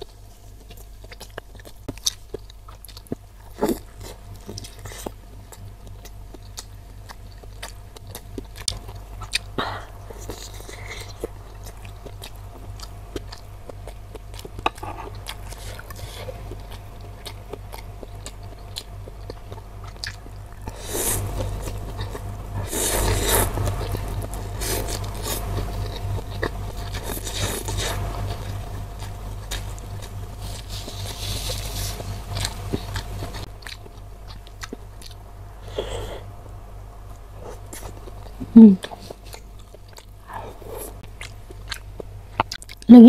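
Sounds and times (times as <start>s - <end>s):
chewing meat off bone: 0.0s - 36.1s, 37.1s - 42.9s.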